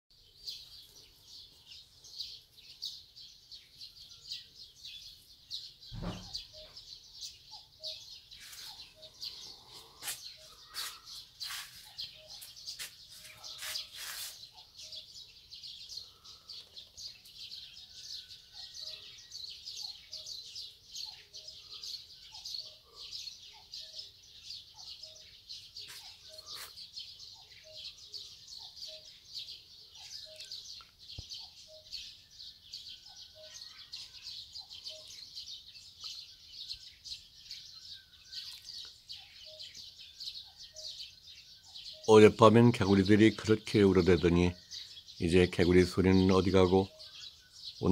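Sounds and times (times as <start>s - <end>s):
birds chirping and singing: 0.1s - 47.9s.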